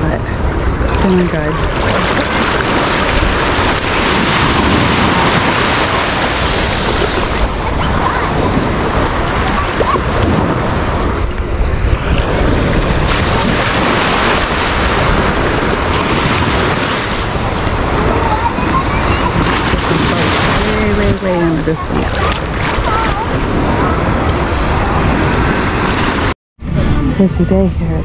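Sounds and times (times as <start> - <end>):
ocean surf washing: 0.0 - 27.7.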